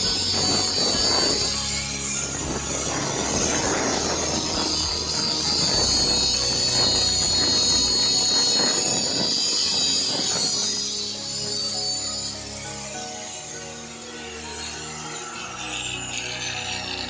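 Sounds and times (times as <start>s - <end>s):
angle grinder motor whine: 0.0s - 17.0s.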